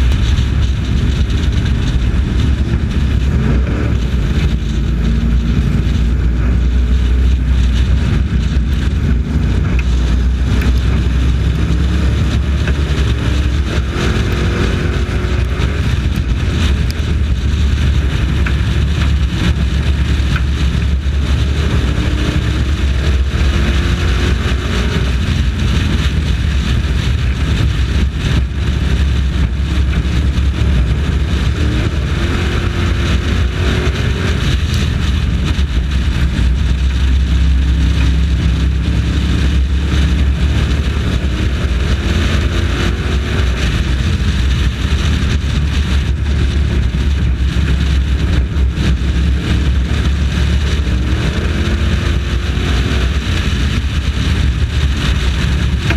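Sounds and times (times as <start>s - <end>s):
race truck engine revving: 0.0s - 55.9s
wind noise on microphone: 0.0s - 55.9s.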